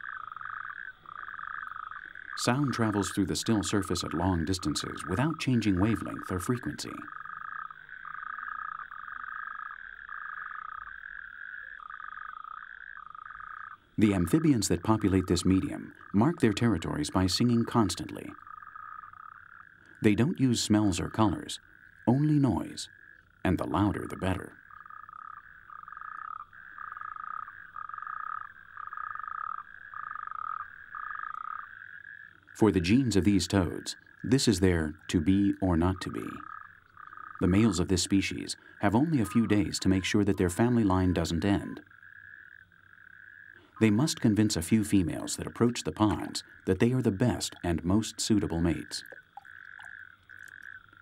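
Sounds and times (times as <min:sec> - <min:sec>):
toad continuous high trill: 0:00.0 - 0:51.0.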